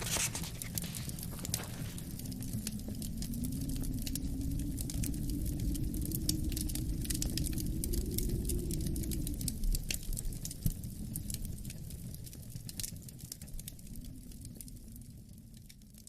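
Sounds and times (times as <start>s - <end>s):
wind howling: 0.0s - 16.0s
wood fire crackling: 0.0s - 16.0s.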